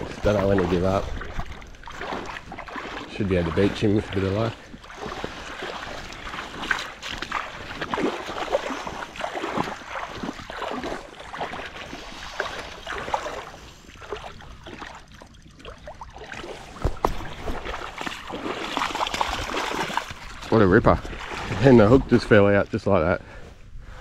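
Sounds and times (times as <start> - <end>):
fish splashing in water: 0.0 - 21.7.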